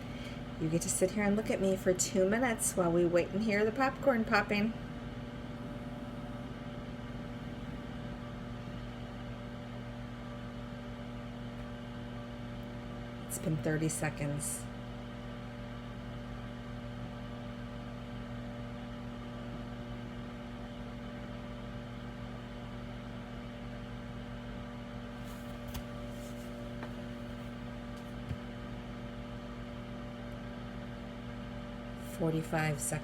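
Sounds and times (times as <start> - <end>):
microwave oven humming: 0.0 - 33.0.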